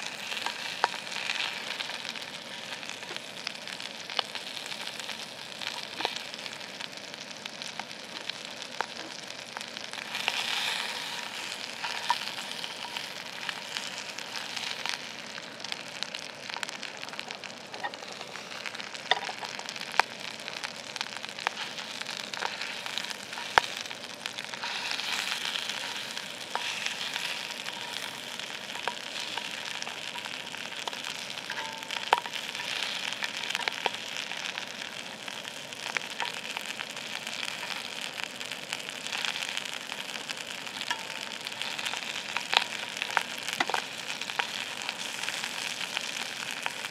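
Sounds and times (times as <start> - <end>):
beef sizzling in a pan: 0.0 - 46.9
fat popping and spattering: 0.0 - 46.9.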